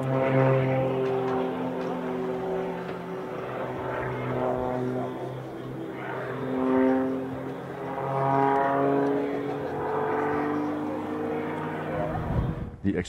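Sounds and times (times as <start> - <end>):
propeller plane engine: 0.0 - 12.8.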